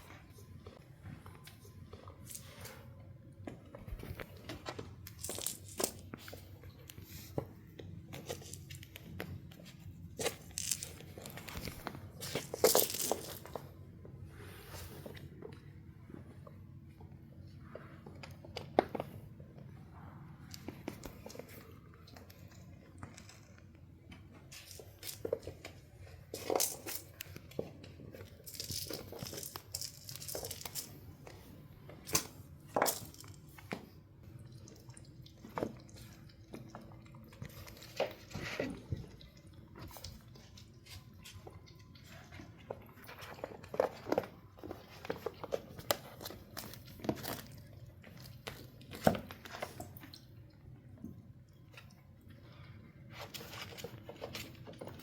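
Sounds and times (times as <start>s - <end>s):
kittens scuffling and scratching: 0.0s - 55.0s.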